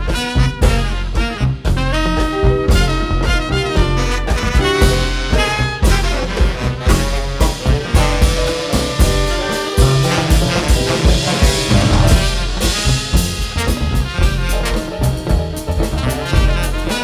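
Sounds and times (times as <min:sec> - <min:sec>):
drum kit: 0:00.0 - 0:17.0
jazz horn section: 0:00.0 - 0:17.0
piano: 0:00.0 - 0:17.0
upright bass: 0:00.0 - 0:17.0
guitar: 0:00.1 - 0:17.0.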